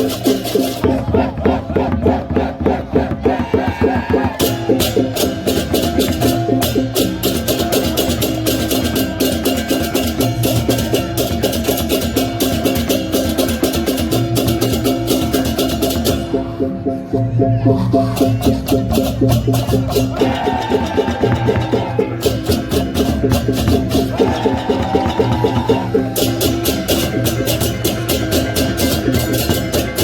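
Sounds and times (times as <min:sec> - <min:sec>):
gamelan percussion playing: 0:00.0 - 0:01.6, 0:04.4 - 0:30.0.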